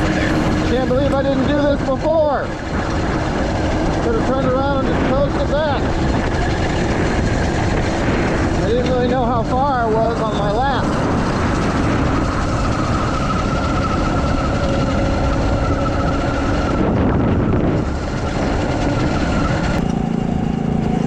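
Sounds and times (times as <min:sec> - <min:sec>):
faint engine hum: 0:00.0 - 0:21.0
lower steady engine hum: 0:00.0 - 0:21.0
wind rushing over microphone: 0:00.0 - 0:21.0.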